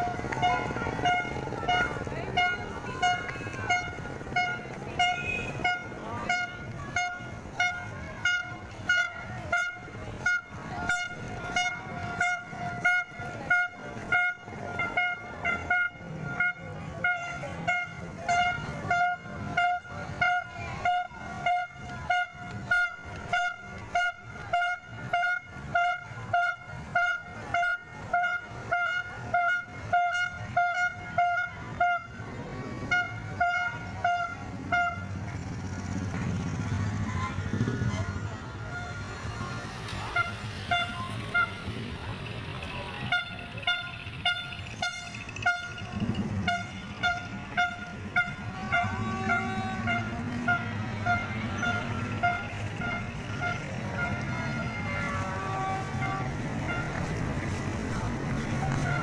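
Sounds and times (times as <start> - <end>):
horn-like toots: 0.0 - 59.0.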